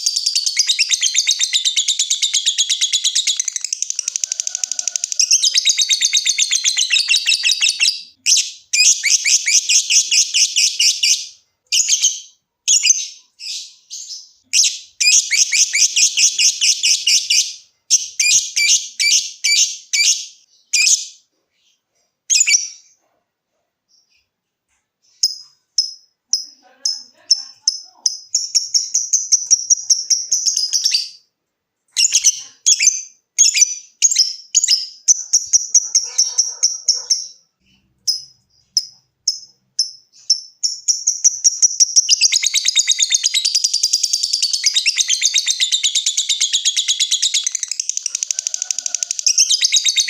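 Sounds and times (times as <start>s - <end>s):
lovebird chattering trill: 0.0s - 21.2s, 25.2s - 31.2s, 32.0s - 50.0s.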